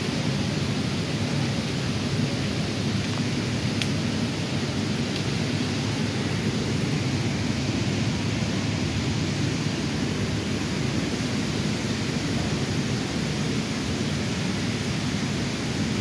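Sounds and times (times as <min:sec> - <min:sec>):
water rushing down a wall: 0:00.0 - 0:16.0.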